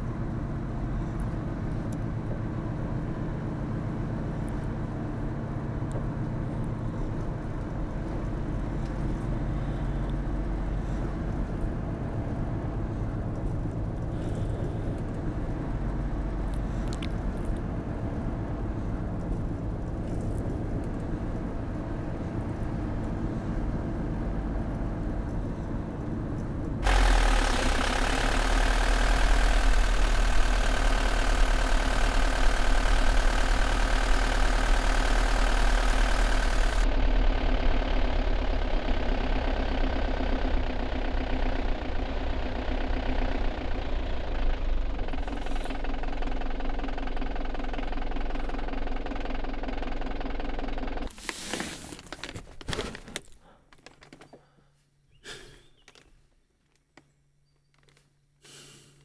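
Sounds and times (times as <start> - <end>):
van engine and road noise: 0.0 - 59.0.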